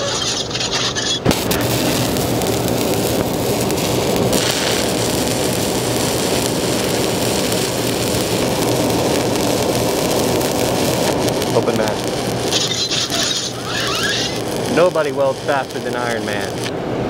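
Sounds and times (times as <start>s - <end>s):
welding arc crackling: 0.0s - 16.8s
welding arc strike: 1.2s - 16.7s.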